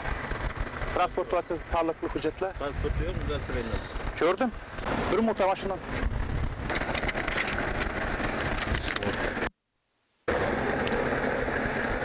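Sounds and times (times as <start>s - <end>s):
roadside traffic rumble: 0.0s - 9.5s, 10.3s - 12.0s.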